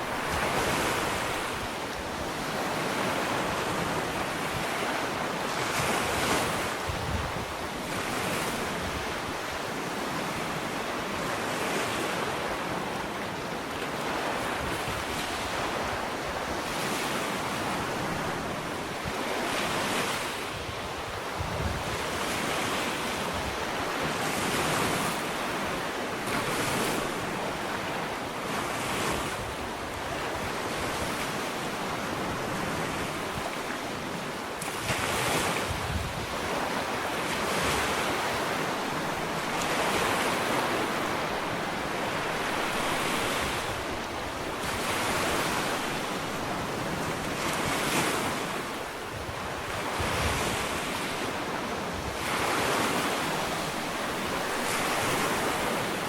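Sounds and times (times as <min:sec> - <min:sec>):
wind noise on microphone: 0:00.0 - 0:12.9, 0:14.1 - 0:56.0
waves washing on shore: 0:00.0 - 0:56.0.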